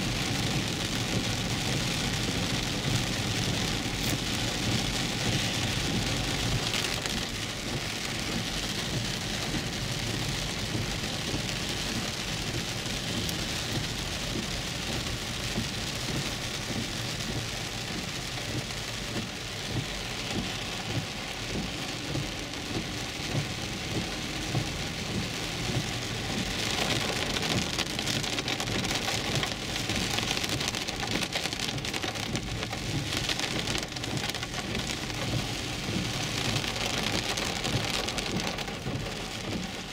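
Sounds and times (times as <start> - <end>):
heavy rain on car roof: 0.0 - 39.9
windshield wipers sweeping: 0.0 - 39.9.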